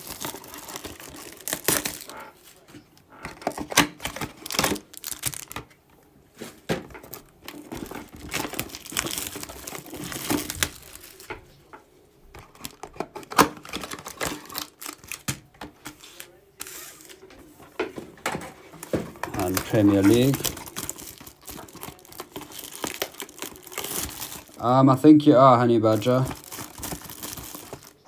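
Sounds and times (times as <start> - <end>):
plastic wrap crinkling and tearing: 0.0 - 2.6, 3.2 - 5.7, 6.9 - 11.4, 12.3 - 17.3, 18.8 - 28.0.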